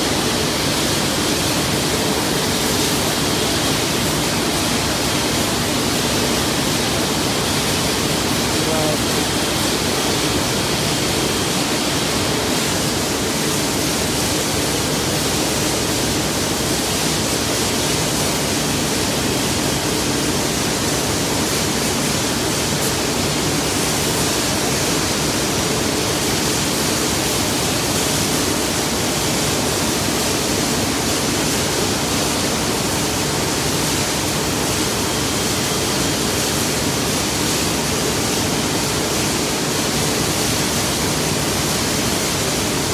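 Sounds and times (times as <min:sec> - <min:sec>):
steam locomotive hissing steam: 0:00.0 - 0:42.9.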